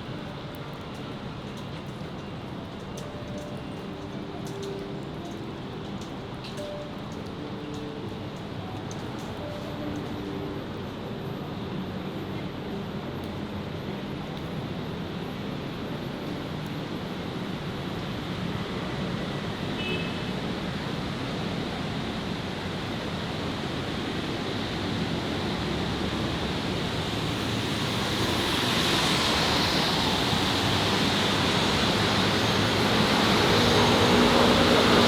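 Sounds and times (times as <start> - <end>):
city street traffic: 0.0 - 35.0.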